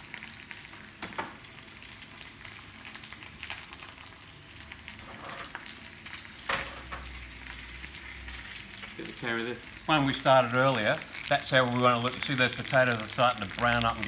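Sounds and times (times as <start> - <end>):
potatoes sizzling in frying pans: 0.0 - 14.0.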